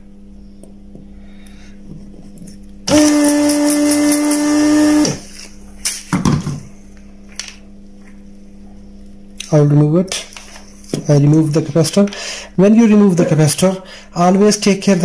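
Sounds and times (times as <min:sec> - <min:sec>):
desoldering vacuum pump buzzing: 0:00.0 - 0:15.0.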